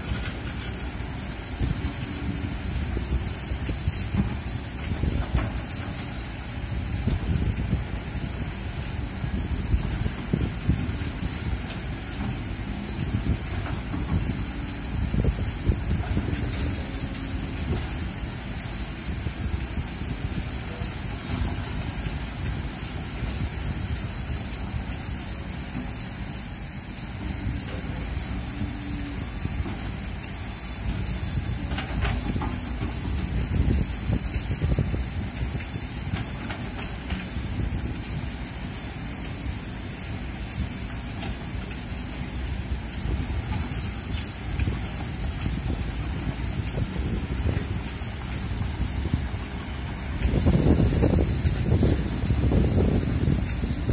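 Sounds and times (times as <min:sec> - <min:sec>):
excavator diesel engine: 0:00.0 - 0:53.9
wind buffeting microphone: 0:00.0 - 0:53.9.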